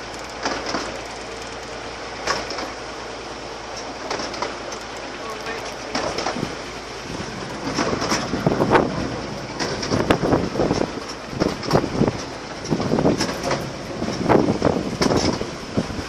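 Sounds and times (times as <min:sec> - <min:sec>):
train running rumble: 0:00.0 - 0:16.0
wheels clacking over rail joints: 0:00.0 - 0:16.0.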